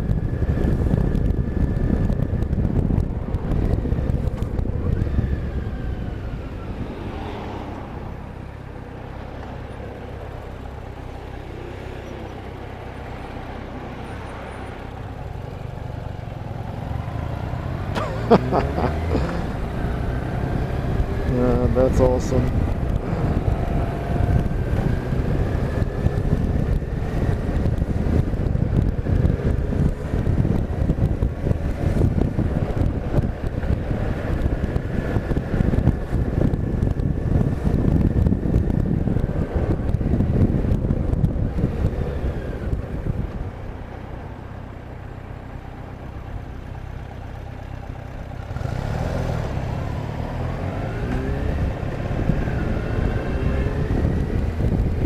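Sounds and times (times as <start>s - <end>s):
wind noise: 0.0s - 44.9s, 45.5s - 55.0s
vehicle engine: 0.0s - 55.0s.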